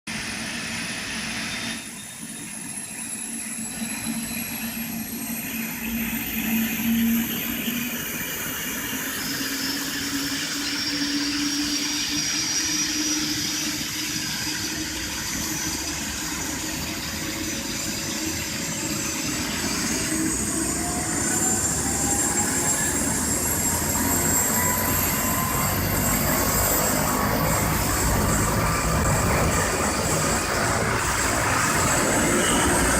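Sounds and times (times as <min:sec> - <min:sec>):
helicopter turbine starting up: 0:00.1 - 0:32.9.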